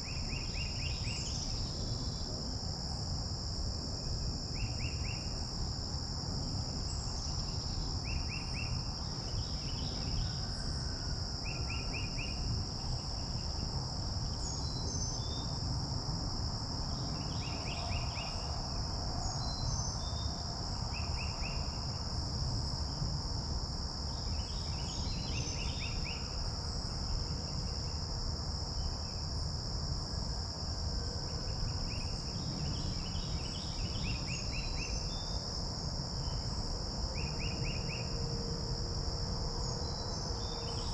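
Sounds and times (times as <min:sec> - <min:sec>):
insect chorus droning: 0:00.0 - 0:40.9.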